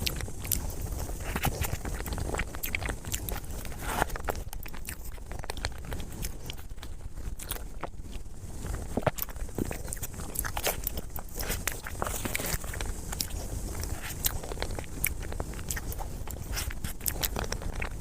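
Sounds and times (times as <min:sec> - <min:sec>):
steady low hum: 0:00.0 - 0:18.0
wet chewing: 0:00.0 - 0:18.0.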